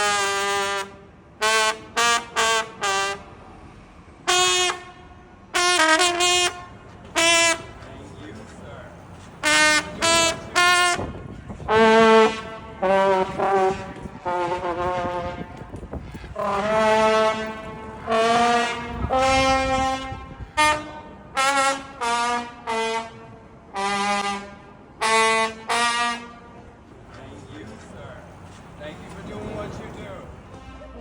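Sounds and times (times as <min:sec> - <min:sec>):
trombone-like brass playing tune: 0:00.0 - 0:03.4, 0:04.2 - 0:08.2, 0:08.9 - 0:26.7.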